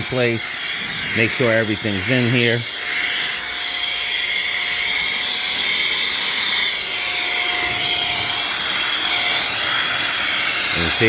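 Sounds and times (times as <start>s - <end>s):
air duster motor whine: 0.0s - 11.0s.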